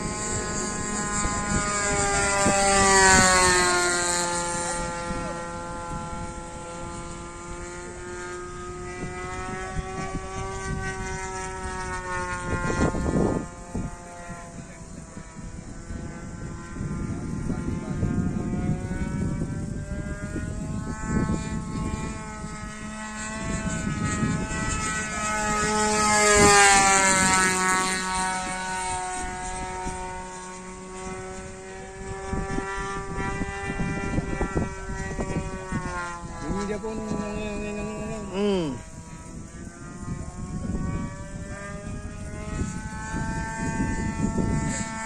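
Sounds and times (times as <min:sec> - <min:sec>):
model airplane engine in flight: 0:00.0 - 0:45.0
wind buffeting microphone: 0:00.0 - 0:45.0.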